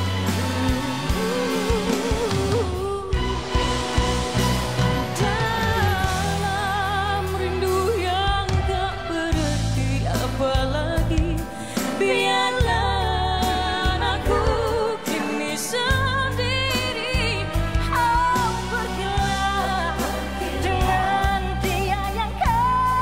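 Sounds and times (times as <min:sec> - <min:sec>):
backing band playing: 0:00.0 - 0:23.0
woman singing pop ballad: 0:00.0 - 0:23.0.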